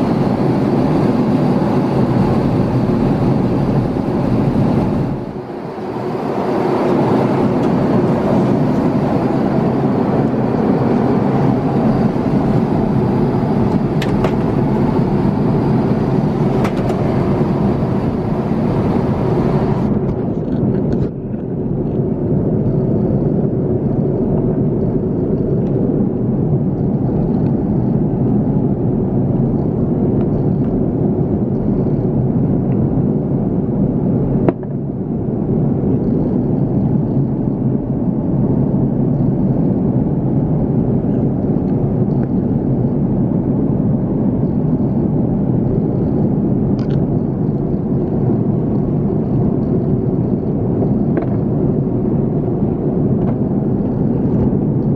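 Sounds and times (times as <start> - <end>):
jet engines roaring in cabin: 0.0 - 54.9.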